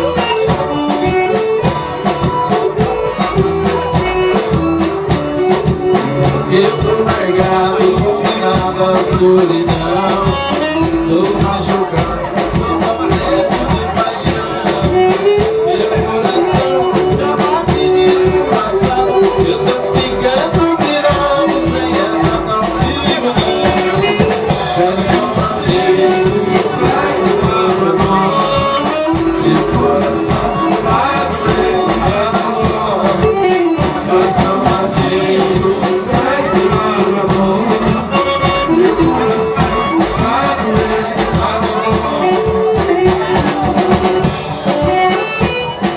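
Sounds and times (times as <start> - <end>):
band playing dance tune: 0.0 - 45.9.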